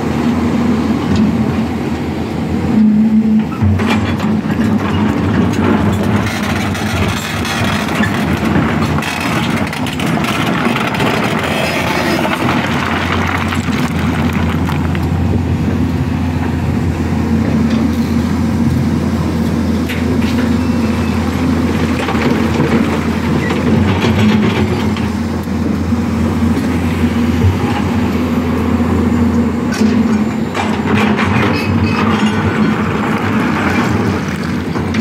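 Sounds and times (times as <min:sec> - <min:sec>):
heavy diesel machinery drone: 0:00.0 - 0:35.0.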